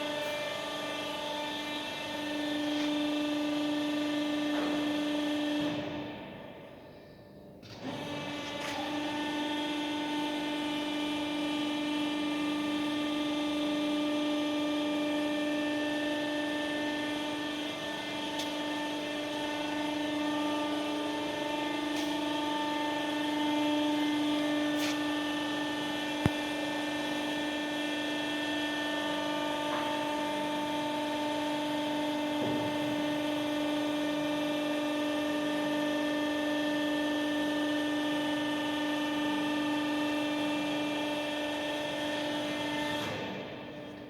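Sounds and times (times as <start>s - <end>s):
hydraulic power unit hum: 0.0s - 44.0s.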